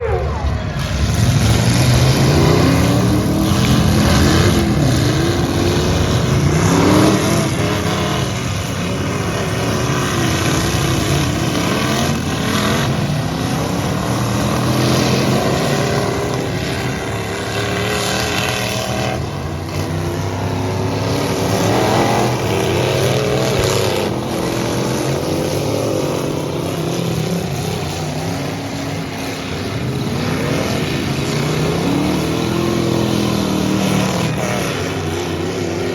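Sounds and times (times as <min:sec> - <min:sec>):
truck engines revving: 0:00.0 - 0:35.9.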